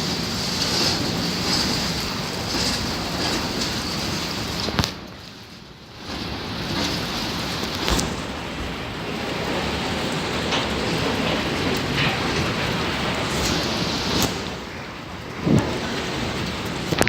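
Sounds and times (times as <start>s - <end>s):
freight train rumbling: 0.0s - 17.0s
wheels clanking: 0.0s - 17.0s.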